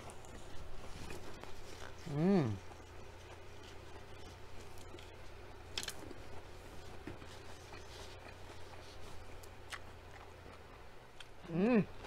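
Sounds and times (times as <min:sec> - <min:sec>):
chewing with soft crunches: 0:00.0 - 0:12.0
low steady hum: 0:00.0 - 0:12.0.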